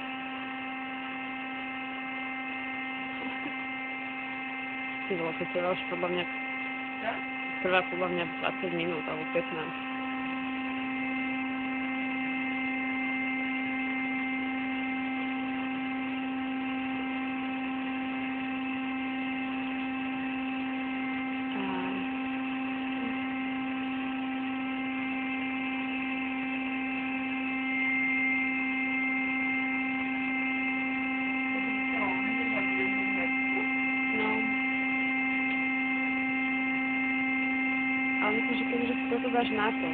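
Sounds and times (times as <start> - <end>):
electric air pump humming: 0.0 - 39.9.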